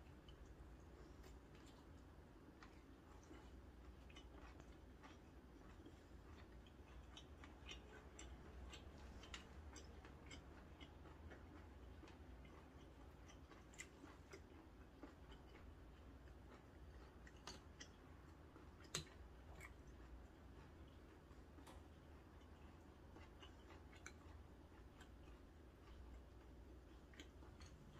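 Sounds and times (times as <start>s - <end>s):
close-up chewing: 0.0s - 27.9s.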